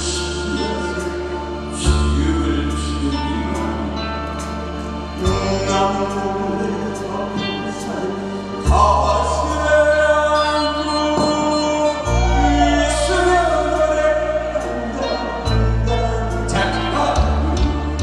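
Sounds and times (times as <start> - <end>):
man singing into microphone: 0.0 - 4.5, 5.2 - 18.0.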